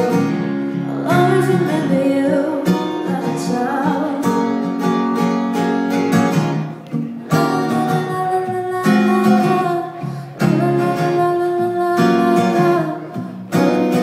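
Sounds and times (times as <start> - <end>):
woman singing: 0.0 - 4.7, 7.3 - 14.0
acoustic guitar strumming: 0.0 - 14.0.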